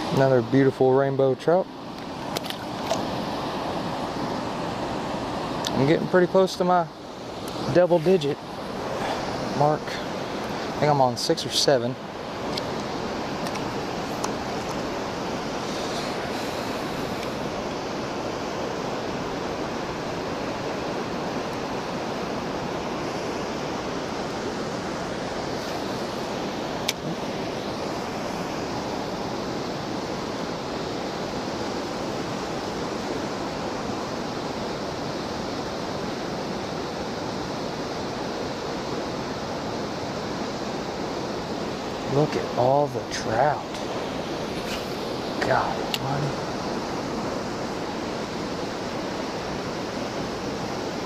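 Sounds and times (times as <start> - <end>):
stream water rushing: 0.0 - 51.0.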